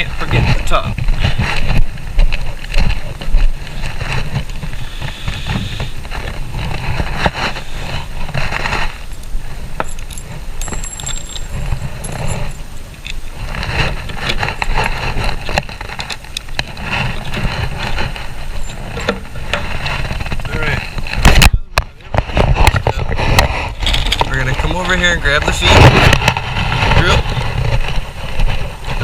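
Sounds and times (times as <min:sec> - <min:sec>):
clicks knocks and scraping: 0:00.0 - 0:29.0
steady low rumble: 0:00.0 - 0:29.0.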